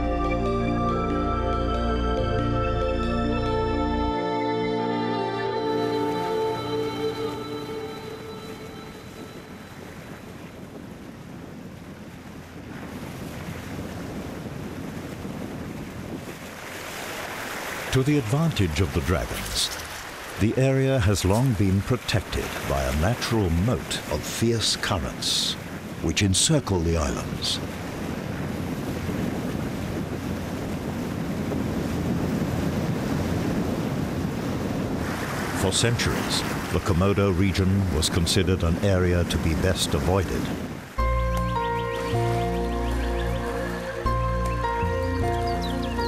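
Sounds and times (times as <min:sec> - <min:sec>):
ocean waves and surf: 0:00.0 - 0:46.0
wind: 0:00.0 - 0:46.0.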